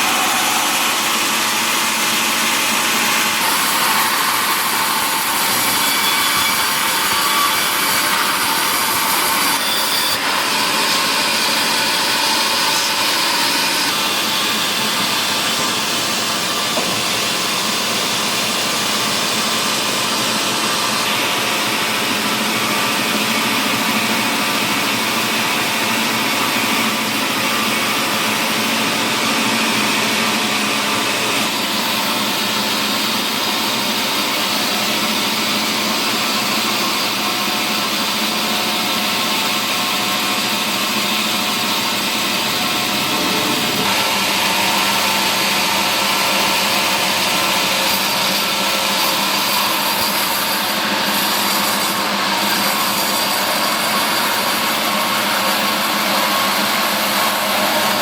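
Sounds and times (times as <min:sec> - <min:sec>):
power saw cutting timber: 0:00.0 - 0:58.0.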